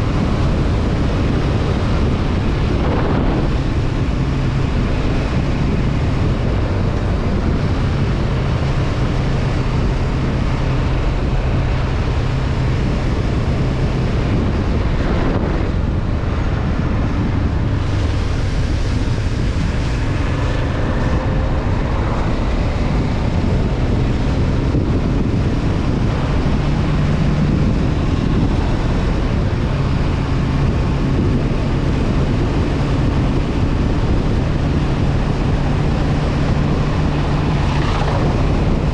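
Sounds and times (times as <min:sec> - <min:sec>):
motorcycle engine cruising: 0:00.0 - 0:38.9
wind rushing over microphone: 0:00.0 - 0:38.9.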